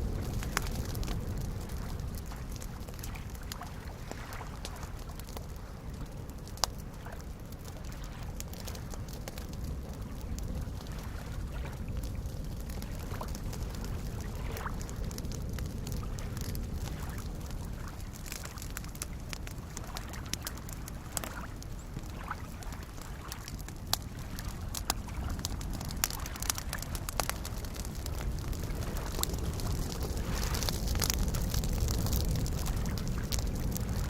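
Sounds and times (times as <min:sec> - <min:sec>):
campfire crackling: 0:00.0 - 0:34.0
waves lapping at shore: 0:00.2 - 0:09.2, 0:09.9 - 0:15.0, 0:16.0 - 0:34.0.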